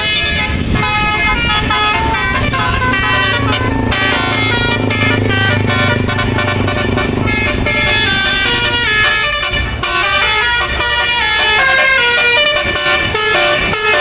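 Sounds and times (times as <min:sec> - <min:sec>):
musical air horn melody: 0:00.0 - 0:14.0.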